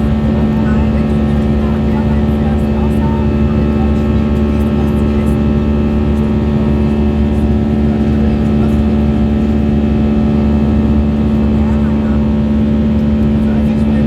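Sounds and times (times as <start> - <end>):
jet engines droning: 0.0 - 14.0.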